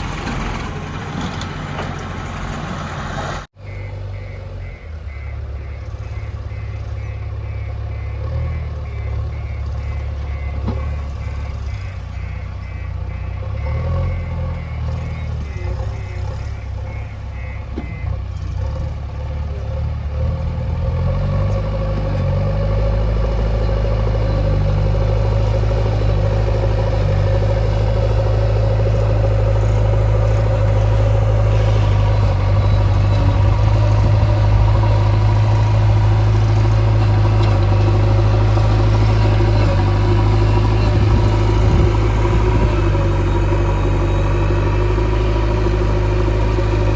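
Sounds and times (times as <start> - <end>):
diesel engine running: 0.0 - 46.9
reversing alarm beeping: 3.5 - 18.3, 21.7 - 46.9.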